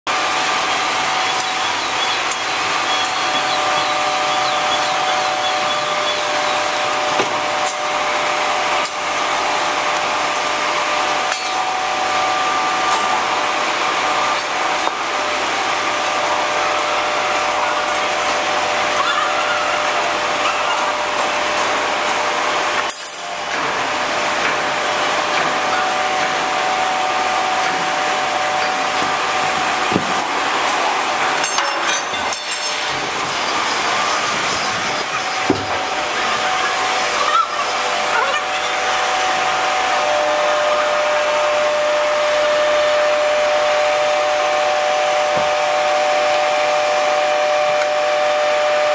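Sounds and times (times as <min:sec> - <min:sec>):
factory machinery whining: 0:00.1 - 0:48.9.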